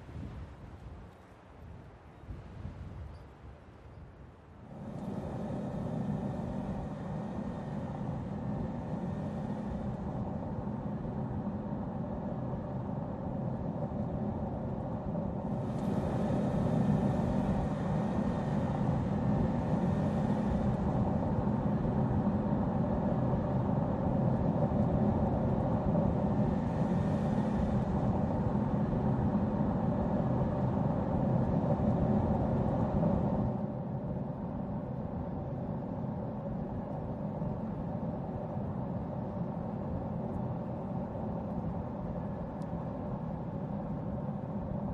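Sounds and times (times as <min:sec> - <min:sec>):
car engine and tyre noise: 0:04.7 - 0:44.9.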